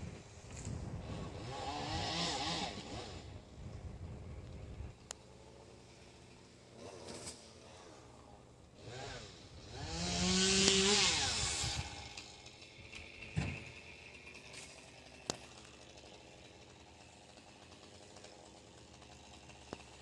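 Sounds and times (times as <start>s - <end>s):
chainsaw at full throttle: 0.0s - 20.0s.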